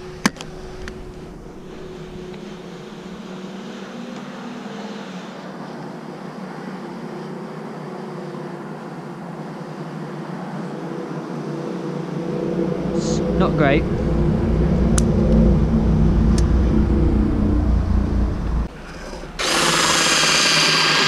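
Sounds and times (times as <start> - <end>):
steady engine drone: 0.0 - 21.0.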